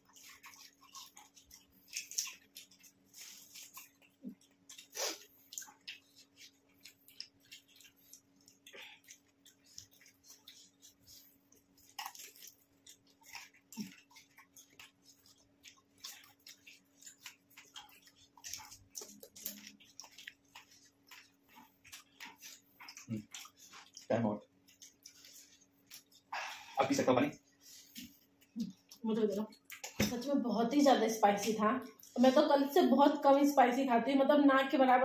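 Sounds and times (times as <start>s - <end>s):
chewing crunchy food: 0.0s - 33.5s.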